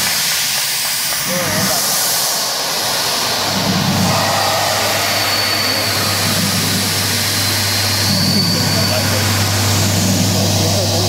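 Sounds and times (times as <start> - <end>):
marine diesel engine running: 1.3 - 11.0.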